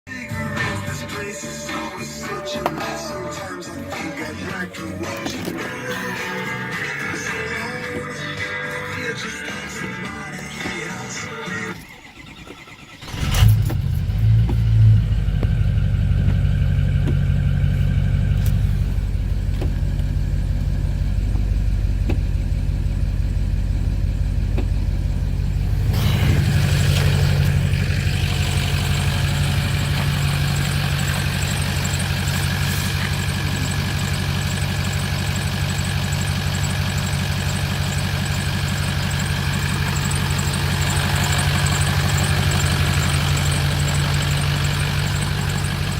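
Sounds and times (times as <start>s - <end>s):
engine starting and idling: 0.2s - 45.9s.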